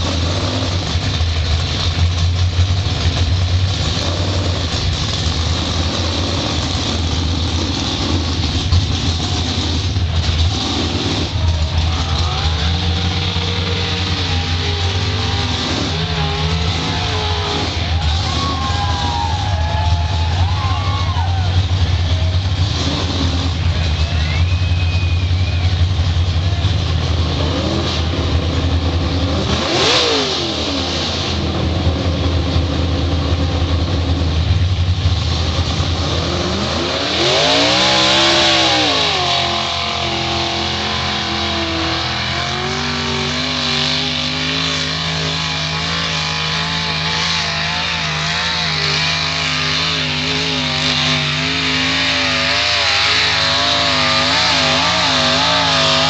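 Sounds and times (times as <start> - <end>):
loud exhaust engine revving: 0.0 - 56.0.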